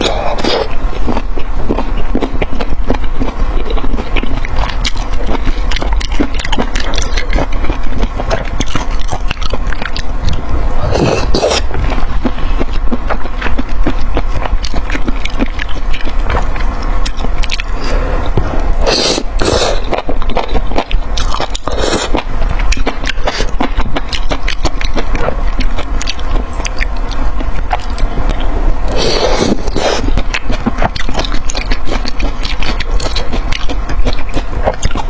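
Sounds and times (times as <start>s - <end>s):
crunchy chewing: 0.0s - 35.0s
low hum: 0.0s - 35.0s.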